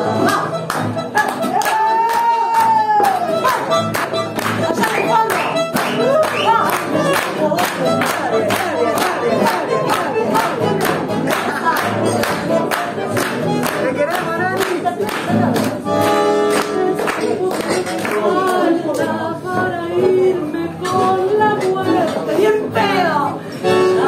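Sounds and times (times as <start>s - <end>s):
bandoneon and guitar: 0.0s - 24.0s
woman singing tango: 0.0s - 24.0s.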